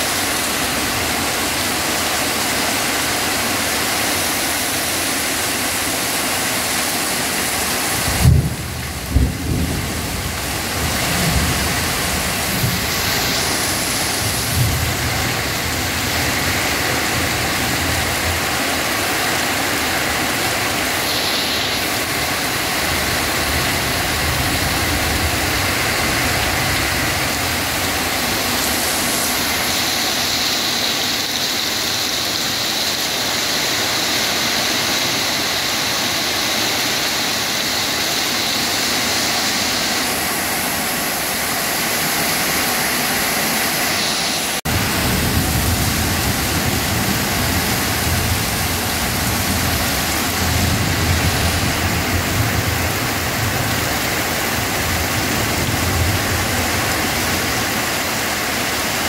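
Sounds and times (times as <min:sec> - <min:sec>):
heavy rain on trees and ground: 0:00.0 - 0:59.0.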